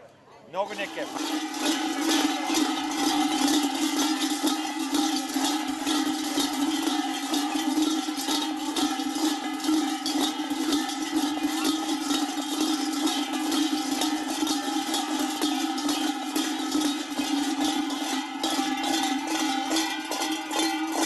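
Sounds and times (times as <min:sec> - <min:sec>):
metal bells jangling: 0:00.6 - 0:21.0.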